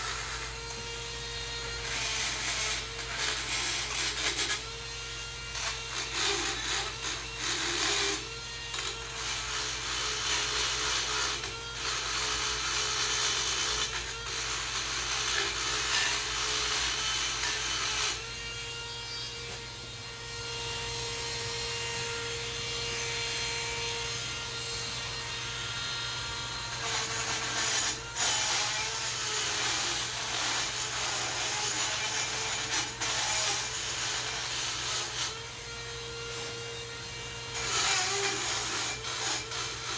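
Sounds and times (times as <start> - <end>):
gritty scraping on metal: 0.0 - 4.7, 5.3 - 35.4, 37.5 - 39.9
rotary tool whining: 0.0 - 39.9.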